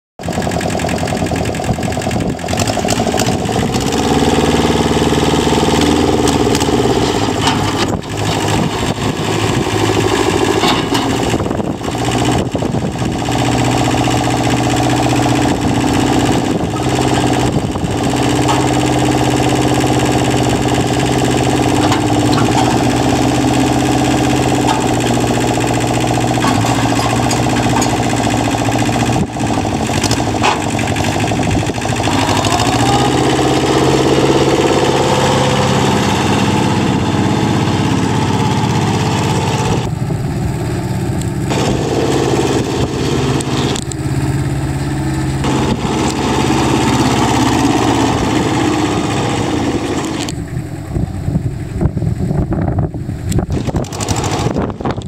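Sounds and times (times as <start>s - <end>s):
tractor engine running: 0.2s - 55.0s.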